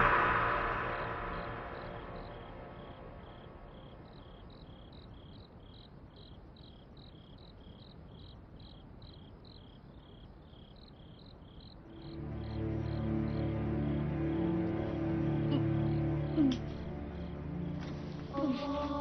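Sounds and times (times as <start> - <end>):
crickets chirping: 0.0 - 19.0
low background hiss: 0.0 - 19.0.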